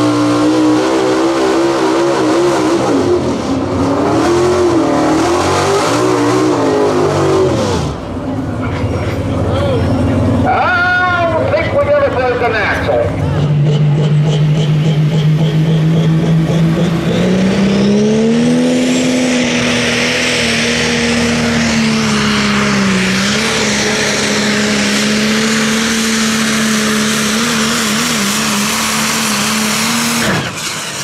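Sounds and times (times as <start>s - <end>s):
tractor engine at full power: 0.0s - 31.0s.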